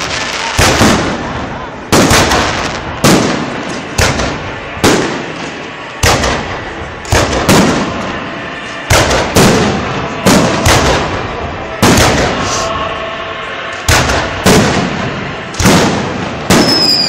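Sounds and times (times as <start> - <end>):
rumbling echo: 0.0 - 17.0.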